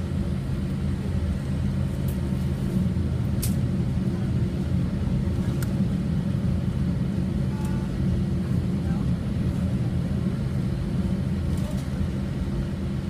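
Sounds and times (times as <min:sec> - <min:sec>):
jet airliner rumble: 0:00.0 - 0:13.0.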